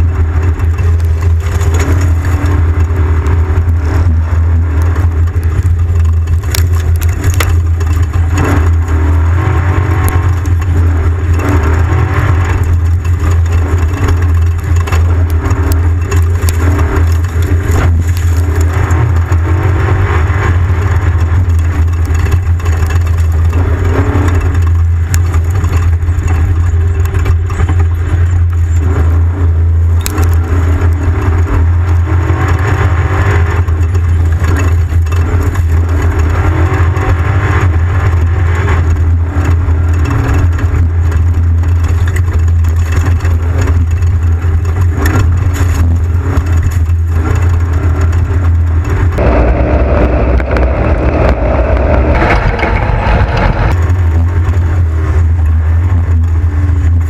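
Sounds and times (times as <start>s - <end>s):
off-road vehicle engine droning: 0.0s - 57.0s
rattling and scraping on rough ground: 0.0s - 57.0s.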